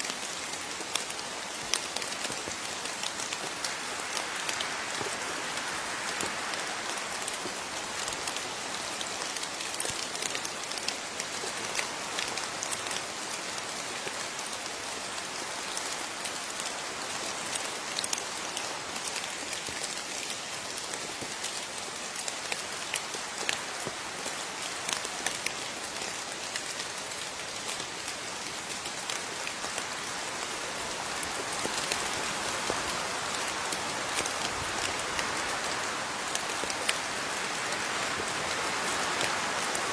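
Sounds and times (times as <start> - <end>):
rain hiss: 0.0 - 39.9.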